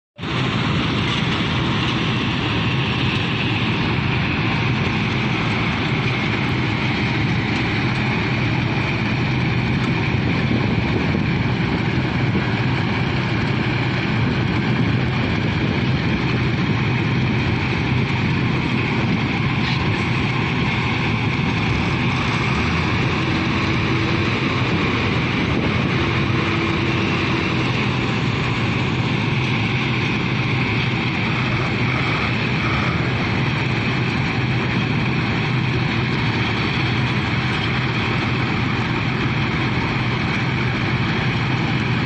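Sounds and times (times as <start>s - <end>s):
low diesel engine drone: 0.2s - 42.0s.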